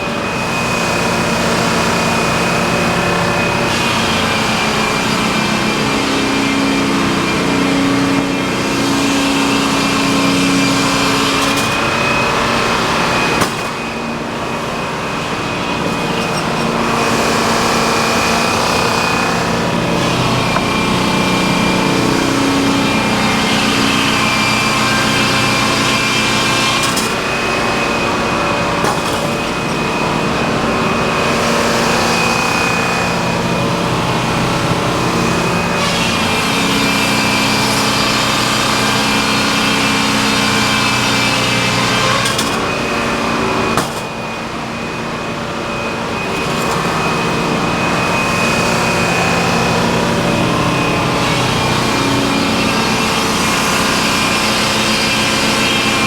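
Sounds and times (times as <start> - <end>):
saw whining: 0.0 - 56.0
sawmill engine: 0.0 - 56.0.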